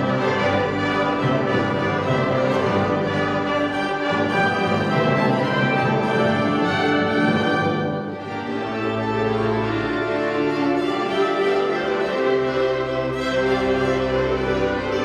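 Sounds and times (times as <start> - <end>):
orchestra strings sustained chords: 0.0 - 15.0.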